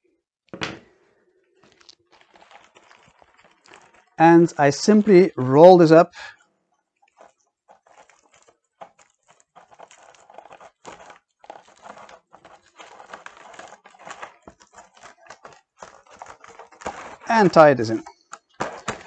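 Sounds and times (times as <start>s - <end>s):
foil balloons crinkling: 1.5s - 19.0s.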